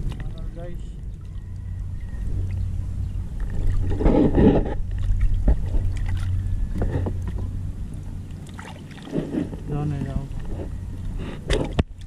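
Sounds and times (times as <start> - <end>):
sea water splashing: 0.0 - 10.5
low rumble: 0.0 - 12.0.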